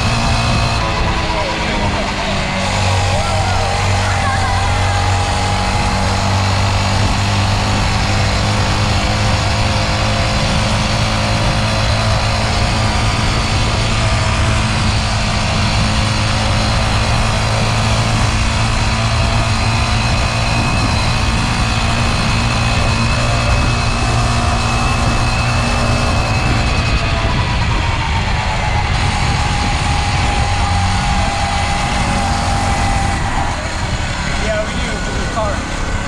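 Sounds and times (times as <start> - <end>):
motorcycle engine running: 0.0 - 36.0
wind rush and road noise: 0.0 - 36.0.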